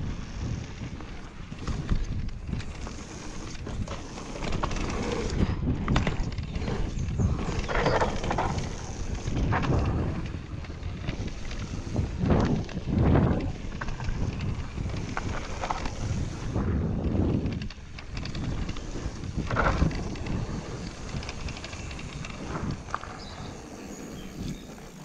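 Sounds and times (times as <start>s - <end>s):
bike clicks and rattles: 0.0s - 25.0s
bike tyres rumbling on dirt: 0.0s - 25.0s
wind buffeting microphone: 0.0s - 25.0s.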